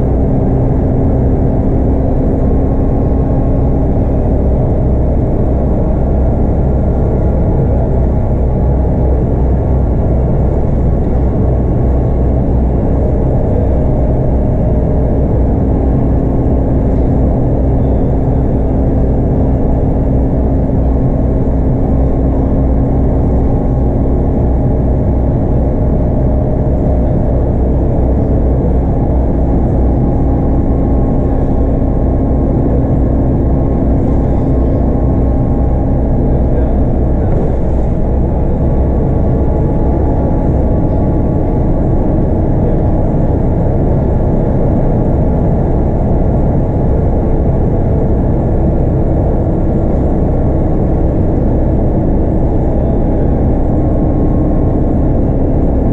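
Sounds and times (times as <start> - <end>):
bus engine drone: 0.0 - 55.9
road rumble: 0.0 - 55.9.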